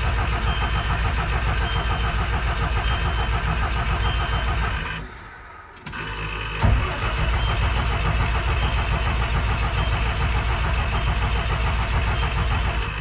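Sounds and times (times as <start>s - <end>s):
diesel engine starter cranking: 0.0s - 13.0s.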